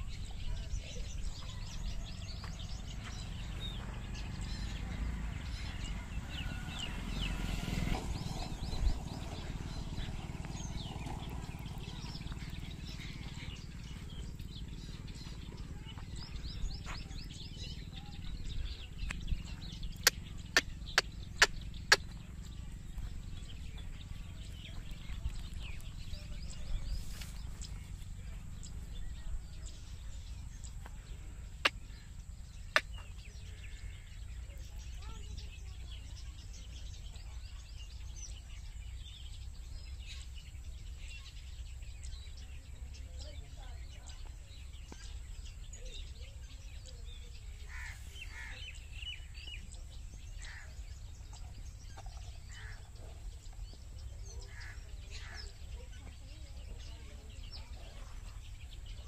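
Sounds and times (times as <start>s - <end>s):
birds chirping and calling: 0.0s - 59.0s
steady low rumble: 0.0s - 59.0s.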